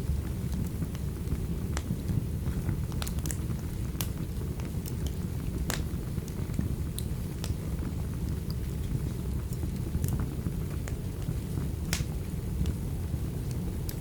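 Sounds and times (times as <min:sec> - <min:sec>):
fireplace crackling and popping: 0:00.0 - 0:14.0.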